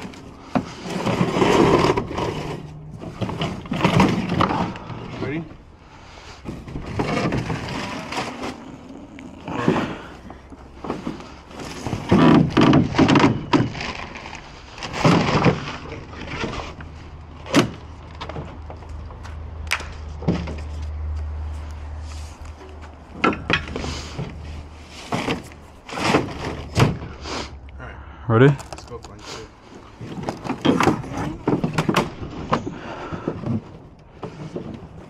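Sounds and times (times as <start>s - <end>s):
wood debris knocking and scraping: 0.0s - 21.3s, 22.1s - 27.2s, 28.5s - 35.0s.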